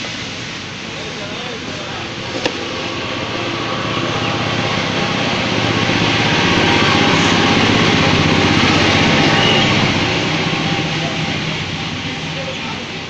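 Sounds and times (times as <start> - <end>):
small engine droning: 0.8 - 13.0.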